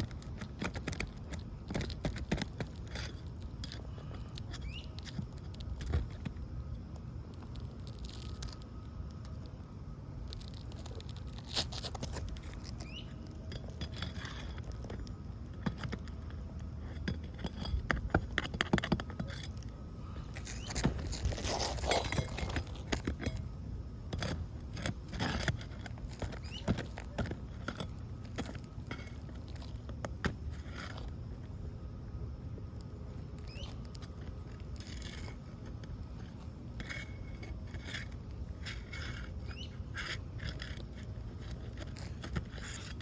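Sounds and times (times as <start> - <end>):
shingles scraping and crackling: 0.0 - 9.5, 10.2 - 23.5, 24.1 - 31.6, 32.9 - 43.0
steady low rumble: 0.0 - 43.0.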